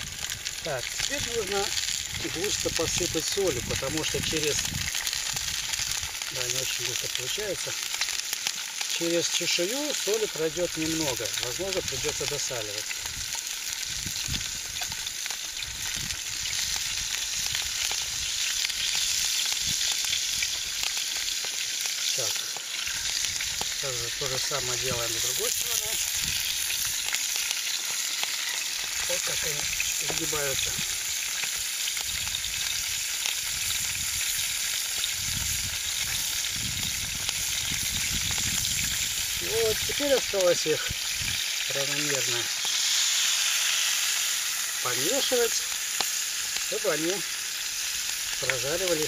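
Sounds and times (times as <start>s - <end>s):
fish sizzling in hot oil: 0.0s - 49.0s.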